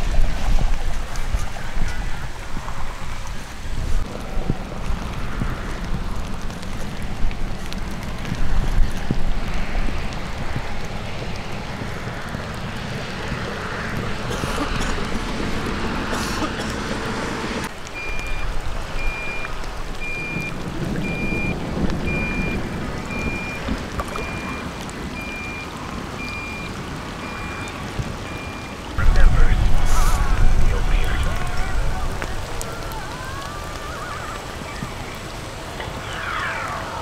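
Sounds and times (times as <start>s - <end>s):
wind noise on microphone: 0.0s - 28.4s, 29.0s - 36.2s
low rumbling: 0.0s - 37.0s
rain: 0.0s - 37.0s.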